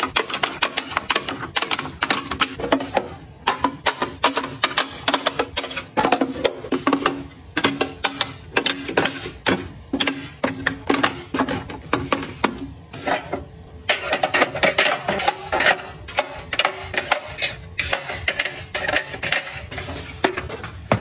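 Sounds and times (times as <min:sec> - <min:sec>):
hard objects clicking and knocking: 0:00.0 - 0:21.0.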